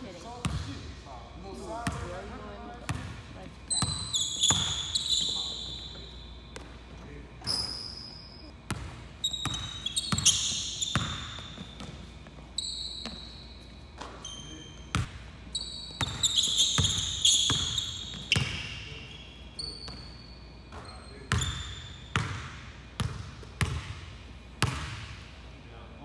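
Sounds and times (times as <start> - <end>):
sneakers squeaking: 0.0 - 25.3.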